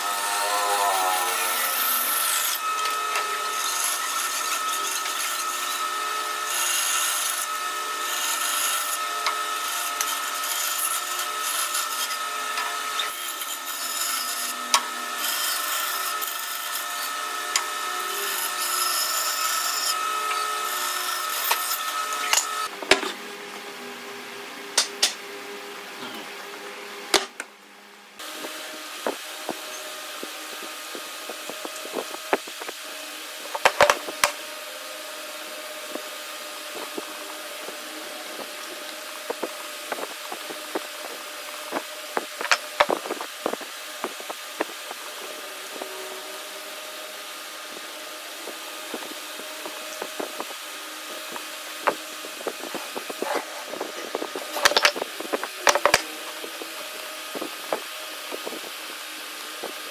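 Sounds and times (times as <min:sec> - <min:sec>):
electric fan humming: 0:00.0 - 0:59.9.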